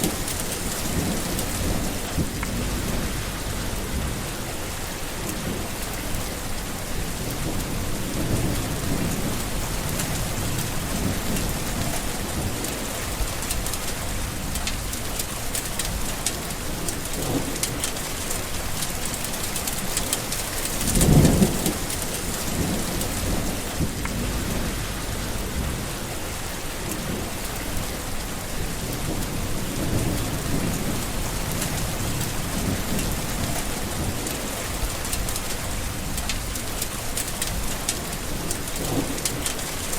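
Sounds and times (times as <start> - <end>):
thunder rumbling: 0.0 - 18.0, 19.0 - 39.9
heavy rain: 0.0 - 39.9.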